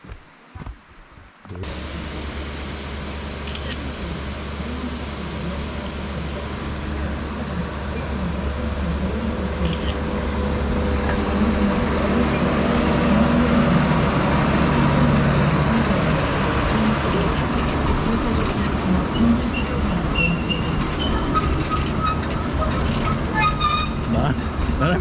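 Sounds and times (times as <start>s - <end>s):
diesel train engine rumble: 1.5s - 25.0s.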